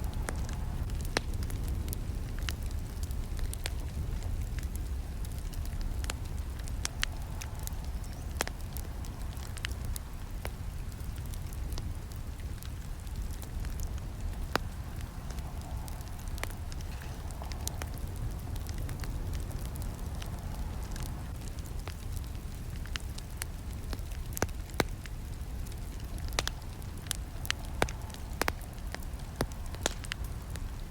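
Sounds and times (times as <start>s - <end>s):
campfire flames rumbling: 0.0s - 30.9s
fire crackling and popping: 0.0s - 30.9s.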